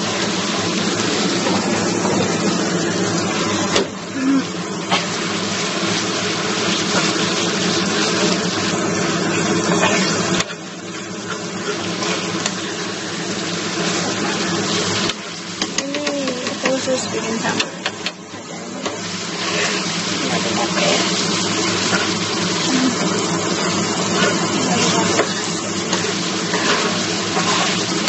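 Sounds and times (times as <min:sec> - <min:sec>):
sauce sizzling in oil: 0:00.0 - 0:28.0.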